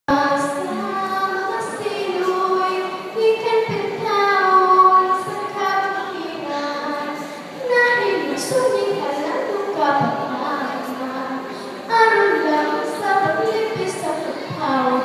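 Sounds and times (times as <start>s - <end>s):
woman singing into a microphone: 0.1s - 15.0s.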